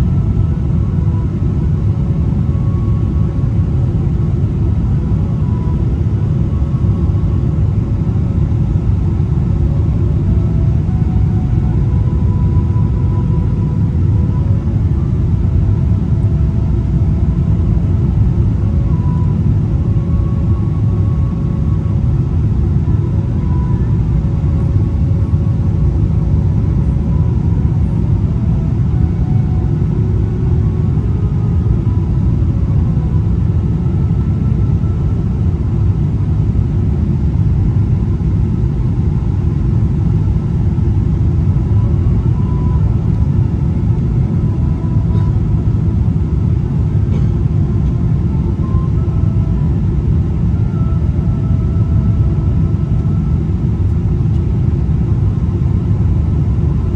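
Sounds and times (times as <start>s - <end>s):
faint engine tones: 0.0s - 56.9s
jet engines rumbling: 0.0s - 56.9s.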